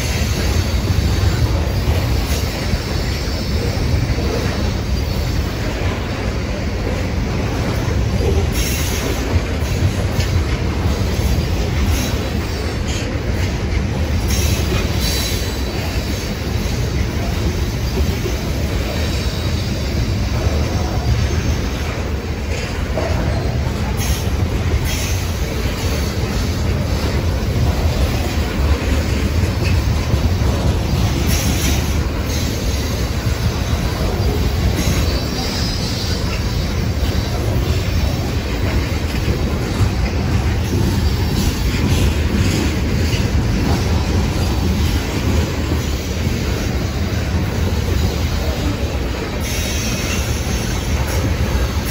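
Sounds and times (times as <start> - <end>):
train wheels rumbling on rail: 0.0 - 51.9
wheel clack on rail joints: 0.0 - 51.9.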